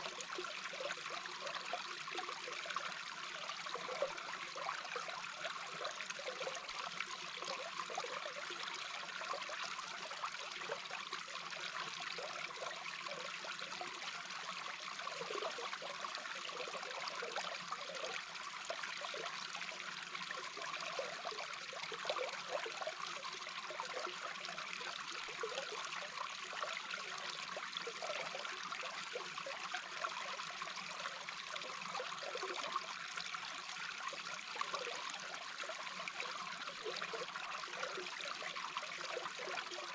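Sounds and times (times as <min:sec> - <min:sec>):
water gurgles: 0:00.0 - 0:39.9.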